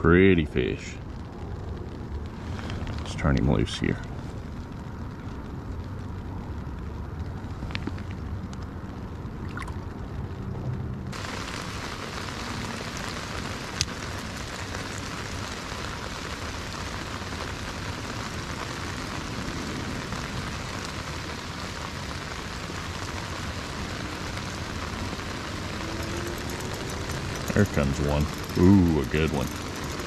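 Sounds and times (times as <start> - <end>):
rain falling on water: 0.0 - 30.0.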